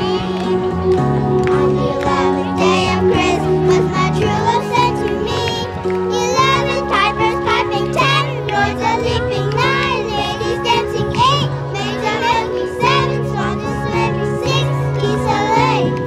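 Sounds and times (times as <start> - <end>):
instrumental backing music: 0.0 - 16.0
children singing in unison: 1.5 - 16.0.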